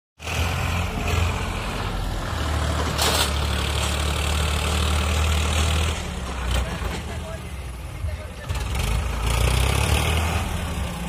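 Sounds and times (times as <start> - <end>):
tractor diesel engine labouring: 0.2 - 11.0.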